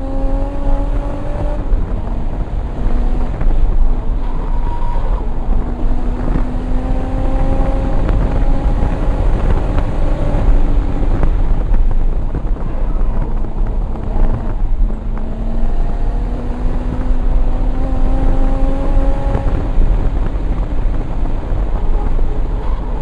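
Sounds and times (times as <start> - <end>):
turbocharged car engine: 0.0 - 23.0
wind and road noise: 0.0 - 23.0.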